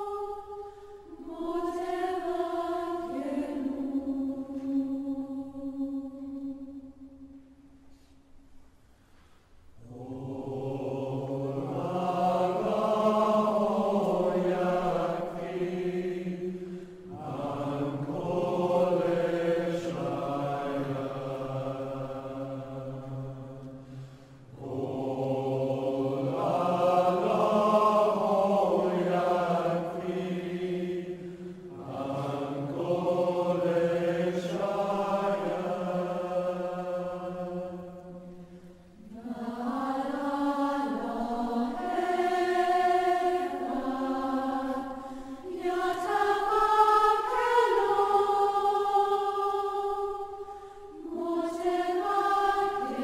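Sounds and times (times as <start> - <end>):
voices chanting: 9.8 - 53.0.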